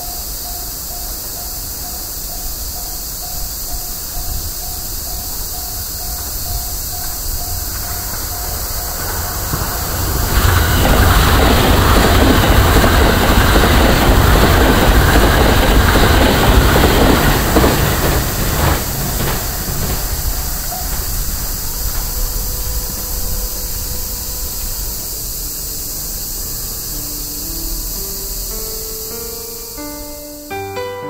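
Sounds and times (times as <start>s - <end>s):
wheels rattling on rail: 0.0s - 30.5s
cicadas shrilling: 0.0s - 31.0s
electric train passing: 0.0s - 31.0s.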